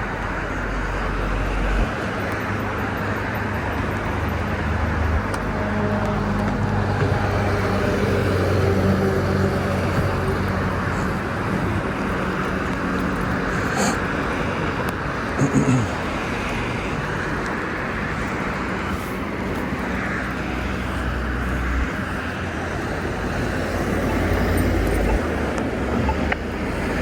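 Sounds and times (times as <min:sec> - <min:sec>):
vehicle engine hum: 0:00.0 - 0:27.0.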